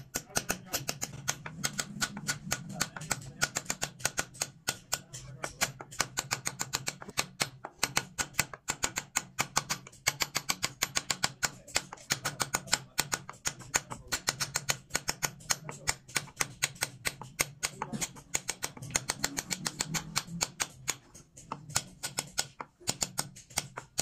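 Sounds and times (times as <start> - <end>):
chisel tapping into wood: 0.0 - 24.0.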